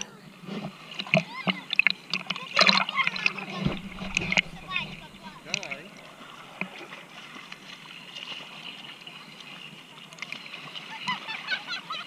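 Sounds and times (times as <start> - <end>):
ocean water sloshing: 0.7 - 11.7.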